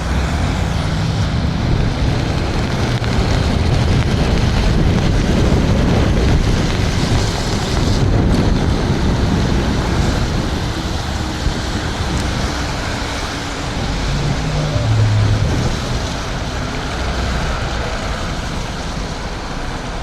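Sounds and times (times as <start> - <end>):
tyre hiss and spray on wet road: 0.0 - 20.0
wind rushing over microphone: 0.0 - 20.0.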